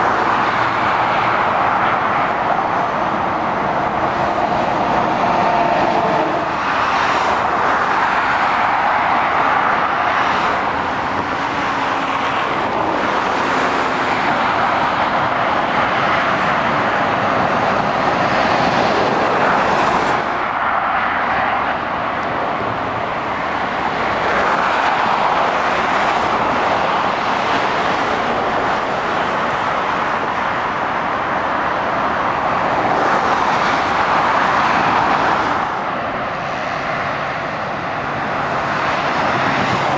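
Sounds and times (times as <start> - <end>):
motorway traffic passing: 0.0 - 39.9.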